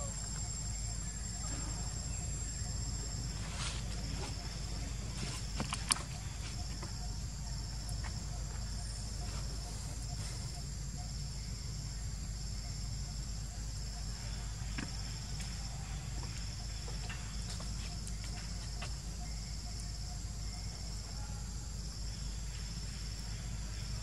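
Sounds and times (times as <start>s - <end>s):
insect high whine: 0.0s - 24.0s
pulsing insect call: 0.0s - 24.0s.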